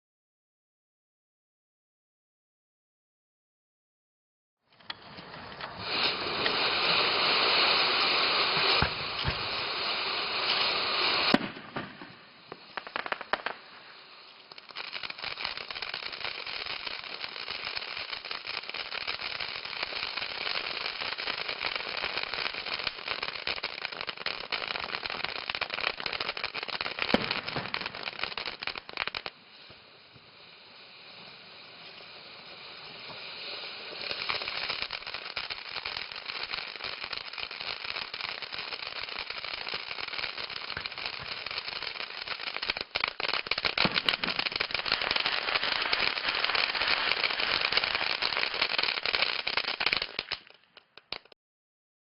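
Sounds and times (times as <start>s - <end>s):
firework crackling: 4.8s - 51.4s
firework fountain hissing: 4.8s - 51.4s.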